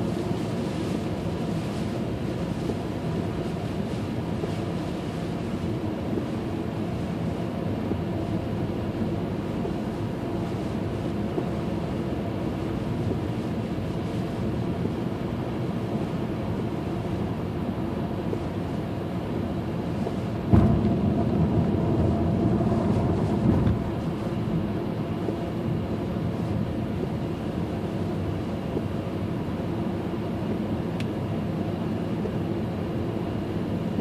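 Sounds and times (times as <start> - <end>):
car driving on wet road: 0.0 - 34.0.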